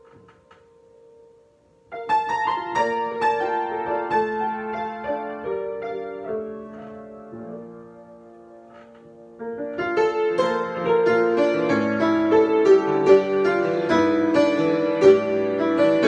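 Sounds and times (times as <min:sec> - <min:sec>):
piano improvisation: 0:00.0 - 0:16.0.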